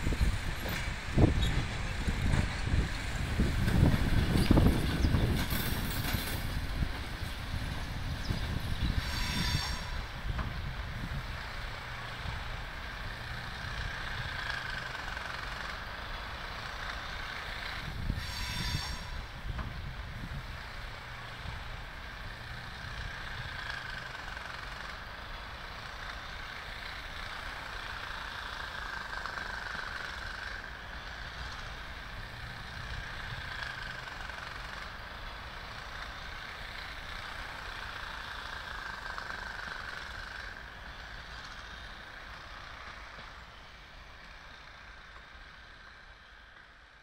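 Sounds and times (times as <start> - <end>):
distant traffic rumble: 0.0 - 47.0
railway noise: 0.0 - 47.0.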